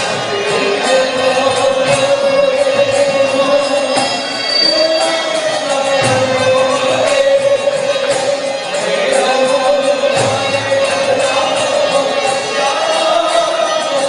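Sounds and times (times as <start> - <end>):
devotional chanting: 0.0 - 14.0
struck percussion: 0.0 - 14.0.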